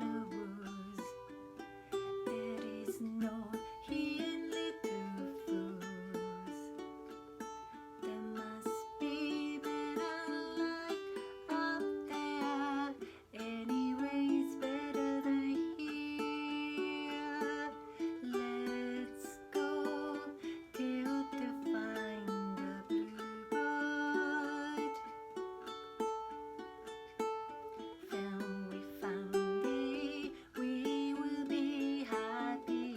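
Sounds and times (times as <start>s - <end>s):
person singing: 0.0s - 32.9s
ukulele strumming: 0.0s - 32.9s.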